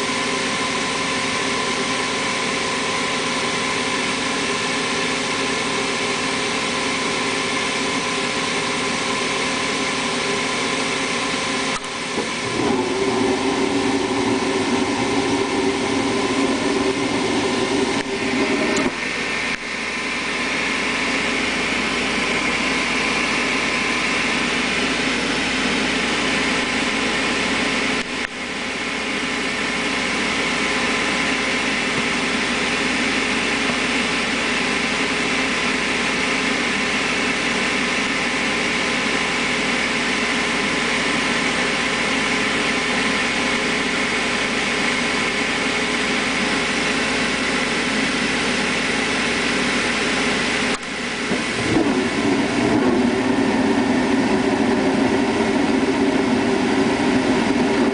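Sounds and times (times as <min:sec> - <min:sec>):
furnace fan whirring: 0:00.0 - 0:57.9.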